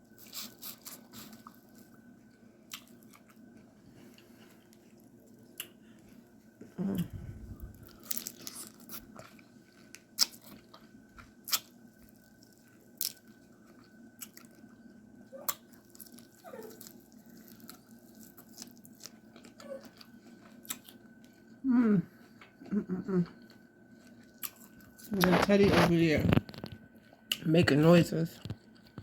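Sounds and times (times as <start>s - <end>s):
chewing: 0.2s - 6.2s, 6.9s - 21.6s, 22.2s - 27.4s.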